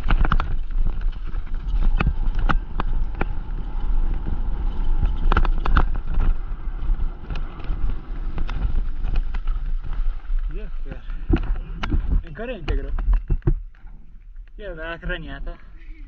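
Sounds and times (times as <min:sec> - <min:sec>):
bike rattling over bumps: 0:00.0 - 0:13.7
bike tyres crunching over stones: 0:00.0 - 0:15.2
steady low rumble: 0:00.0 - 0:16.0.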